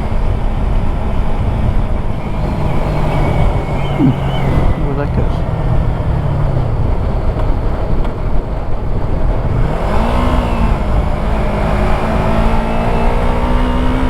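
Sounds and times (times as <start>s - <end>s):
motorcycle engine running: 0.1s - 14.0s.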